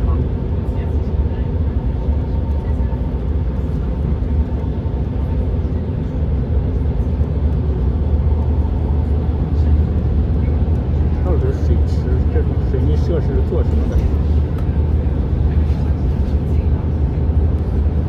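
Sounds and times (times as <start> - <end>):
car tyres and engine rumbling: 0.0 - 18.0.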